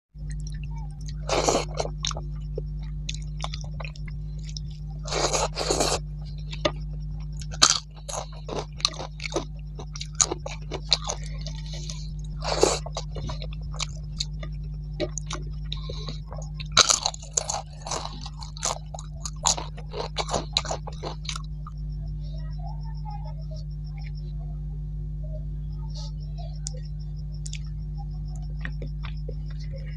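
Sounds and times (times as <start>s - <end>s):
chewing with sharp crunches: 0.2s - 21.9s, 25.9s - 29.9s
steady low hum: 0.2s - 29.9s.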